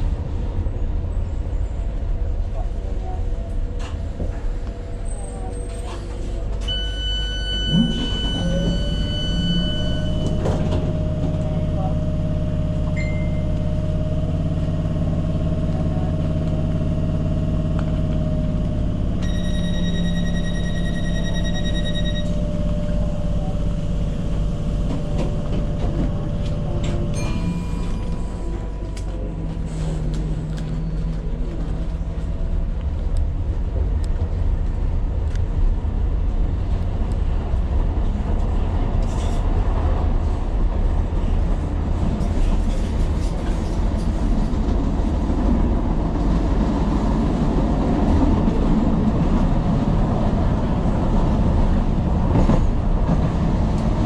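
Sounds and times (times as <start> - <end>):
train equipment hum: 0.0 - 54.0
train wheel rumble: 0.0 - 54.0.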